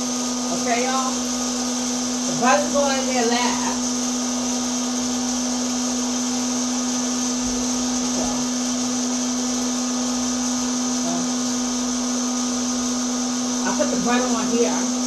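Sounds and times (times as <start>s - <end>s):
popcorn popper fan whirring: 0.0s - 15.0s.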